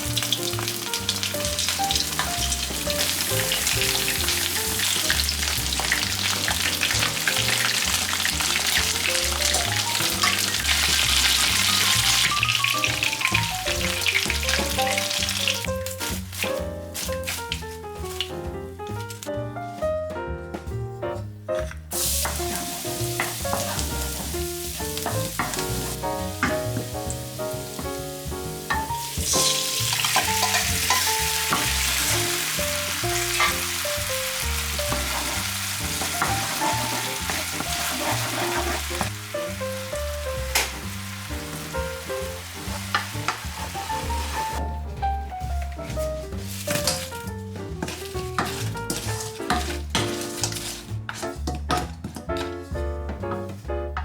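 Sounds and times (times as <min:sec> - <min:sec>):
food sizzling in hot oil: 0:00.0 - 0:18.3, 0:21.9 - 0:44.6, 0:45.4 - 0:51.5
background music: 0:00.0 - 0:54.0.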